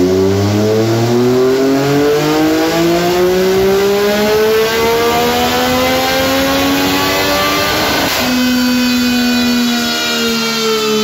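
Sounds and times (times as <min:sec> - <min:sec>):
motorcycle engine revving under load: 0:00.0 - 0:11.0.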